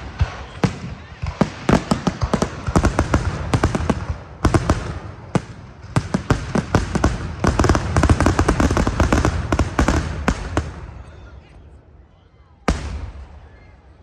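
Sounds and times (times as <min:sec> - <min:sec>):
fireworks bangs and crackles: 0:00.0 - 0:11.8, 0:12.6 - 0:14.0.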